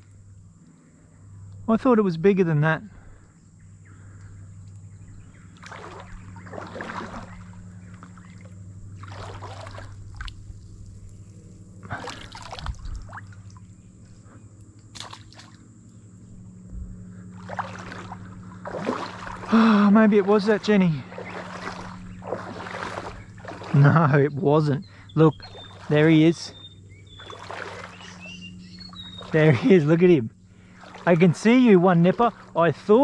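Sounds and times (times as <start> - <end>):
wading through shallow water: 2.9 - 33.0.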